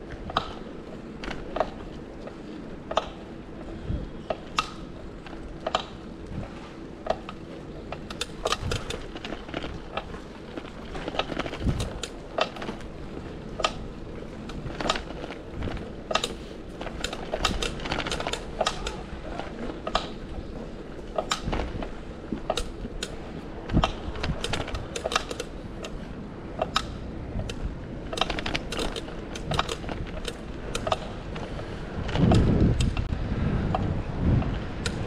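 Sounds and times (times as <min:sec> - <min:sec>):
city traffic rumble: 0:00.0 - 0:35.0.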